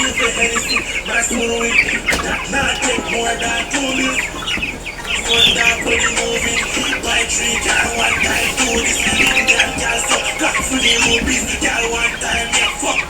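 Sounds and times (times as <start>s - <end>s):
chickens clucking: 0.0s - 13.0s
music playing: 0.0s - 13.0s.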